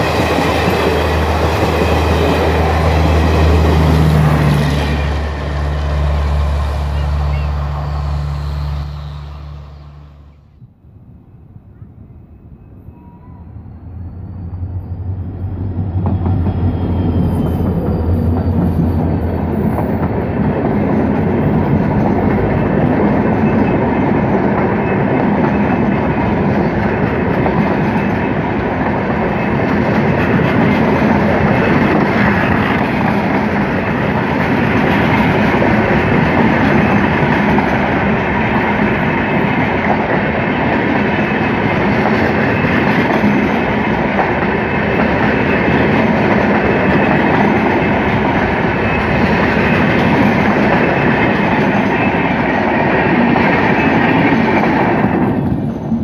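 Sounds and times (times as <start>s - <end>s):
diesel locomotive engine drone: 0.0s - 56.0s
train coaches rumbling past: 0.0s - 56.0s.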